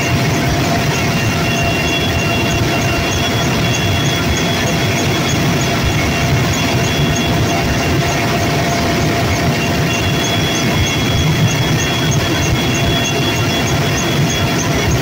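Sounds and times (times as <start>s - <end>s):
helicopter engine and rotor noise: 0.0s - 15.0s
high whine: 0.0s - 15.0s.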